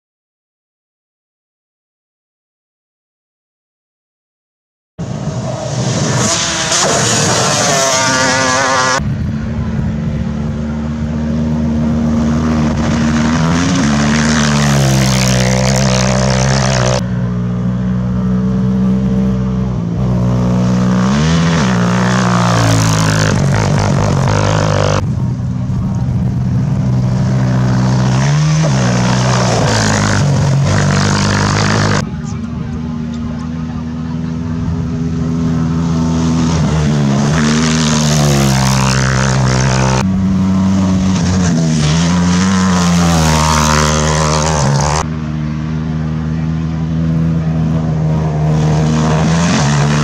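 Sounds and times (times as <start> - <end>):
racing quad engines revving high: 5.0 - 50.0.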